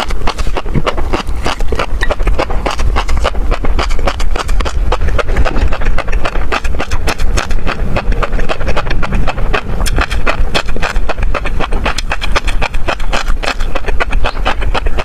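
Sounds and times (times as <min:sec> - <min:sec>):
chewing crunchy fish roe: 0:00.0 - 0:15.0
low rumble: 0:00.0 - 0:15.0.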